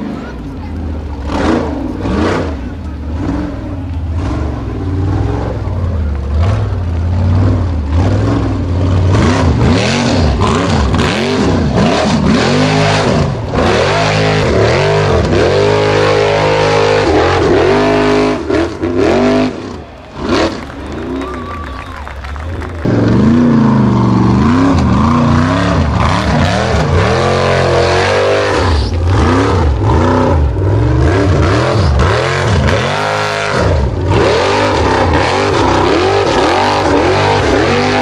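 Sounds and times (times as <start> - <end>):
buggy engine revving hard: 0.0 - 38.0.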